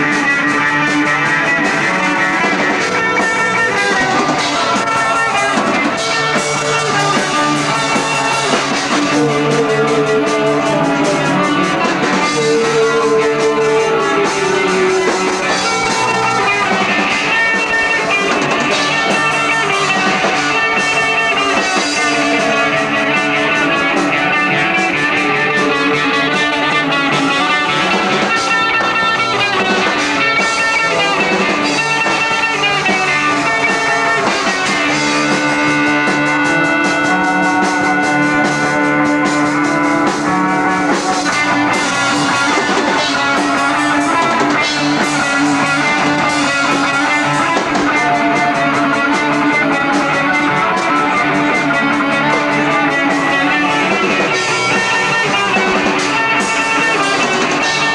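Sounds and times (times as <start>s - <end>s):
rock band playing live: 0.0s - 57.9s.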